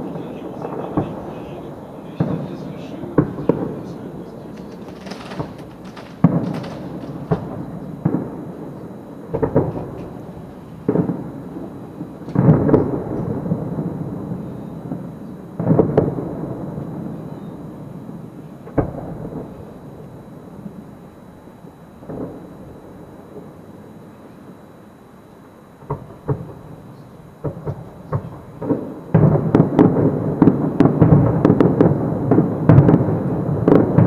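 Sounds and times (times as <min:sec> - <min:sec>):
fireworks booming: 0:00.0 - 0:34.0.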